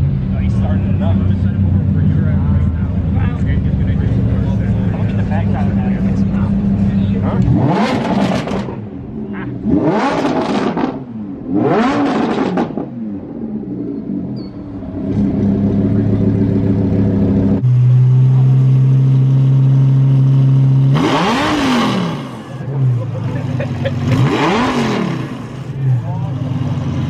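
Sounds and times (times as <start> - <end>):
car engine revving: 0.1 - 27.0.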